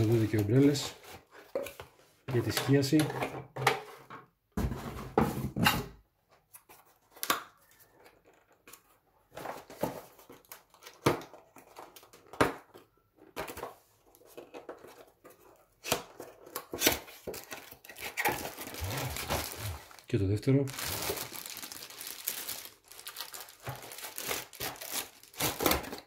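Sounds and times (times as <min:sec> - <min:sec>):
cardboard and plastic rustling: 0:00.0 - 0:02.8, 0:07.7 - 0:26.0.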